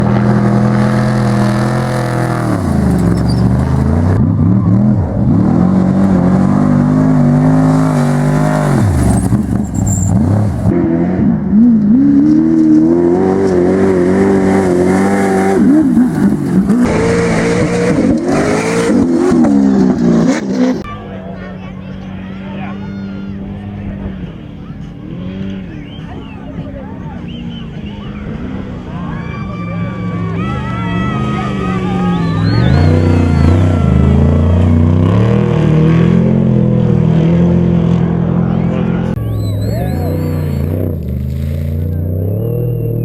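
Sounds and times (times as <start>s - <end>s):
truck engine revving hard: 0.0s - 43.0s.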